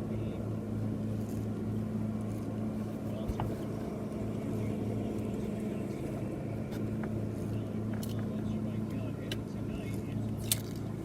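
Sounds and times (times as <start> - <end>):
electric trolling motor humming: 0.0 - 11.0.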